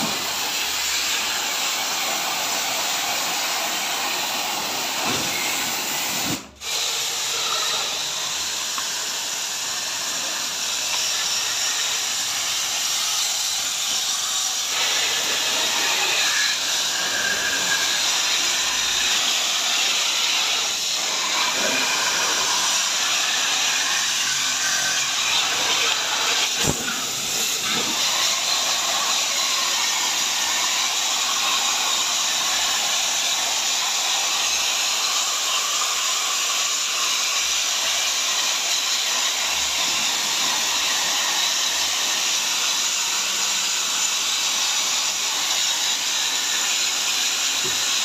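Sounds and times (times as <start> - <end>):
pressure washer jet hissing: 0.0 - 48.0.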